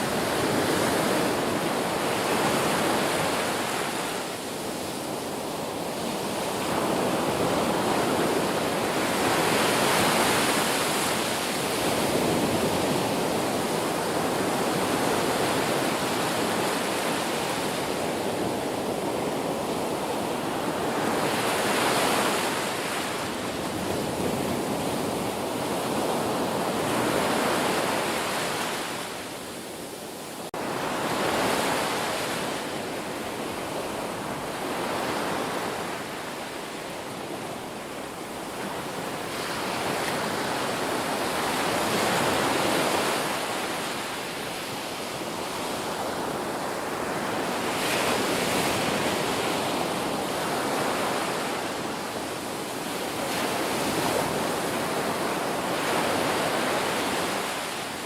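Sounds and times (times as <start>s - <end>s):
waves breaking on shore: 0.0s - 58.0s.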